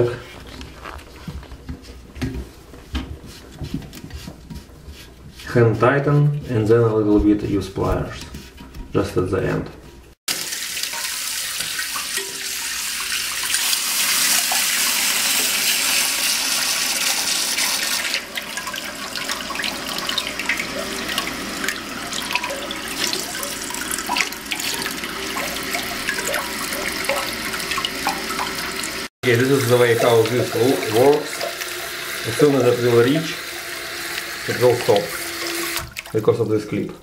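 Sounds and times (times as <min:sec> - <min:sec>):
water filling toilet tank: 0:00.0 - 0:36.8.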